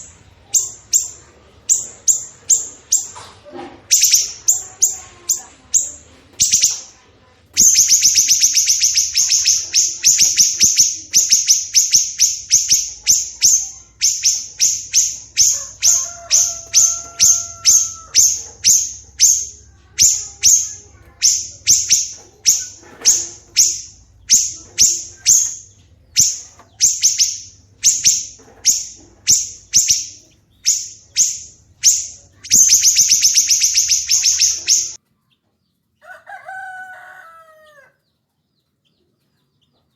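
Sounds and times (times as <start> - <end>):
songbird rapid high-pitched notes: 0.0 - 3.1, 3.9 - 6.9, 7.6 - 35.0.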